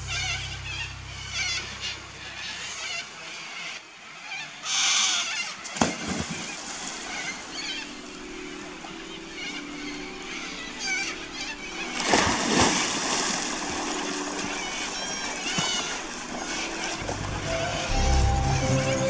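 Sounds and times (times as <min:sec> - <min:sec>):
water splashing: 0:00.0 - 0:19.0.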